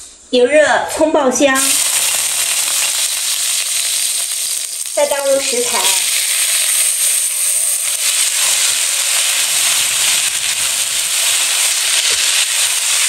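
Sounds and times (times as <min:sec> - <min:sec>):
vegetables sizzling in hot oil: 0:01.4 - 0:13.0.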